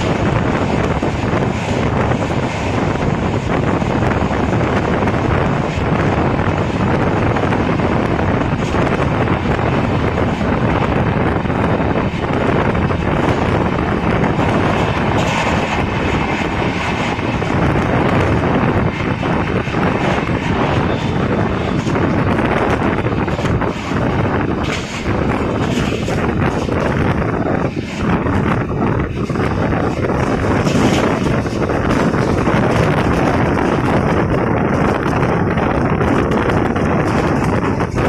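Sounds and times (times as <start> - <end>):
train wheels rumbling on rail: 0.0 - 38.0
wind buffeting microphone: 0.0 - 38.0.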